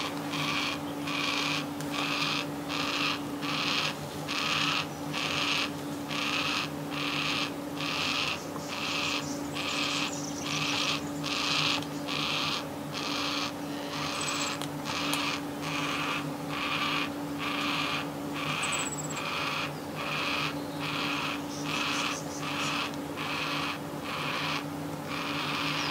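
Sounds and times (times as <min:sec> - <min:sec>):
cockatoo harsh rasping call: 0:00.0 - 0:25.9.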